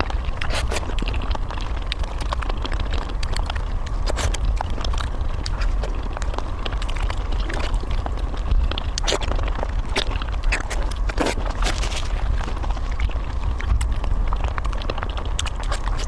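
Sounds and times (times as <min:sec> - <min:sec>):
person chewing: 0:00.0 - 0:16.0
sharp clicks and smacks: 0:00.0 - 0:16.0
steady low rumble: 0:00.0 - 0:16.0.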